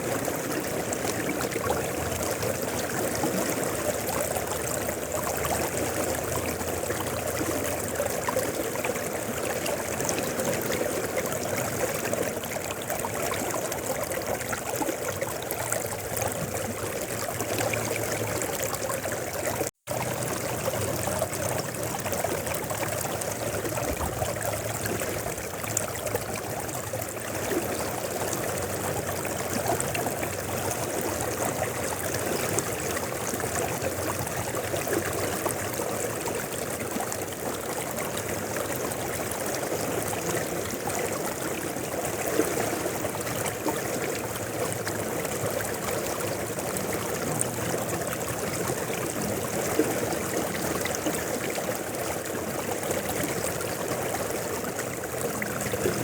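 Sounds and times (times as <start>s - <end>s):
small water splashes: 0.0s - 56.0s.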